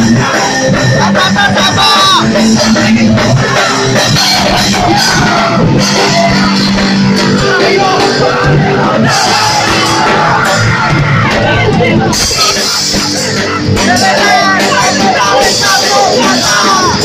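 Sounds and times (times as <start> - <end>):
live rock band playing: 0.0 - 17.0
shouted vocals: 0.0 - 17.0.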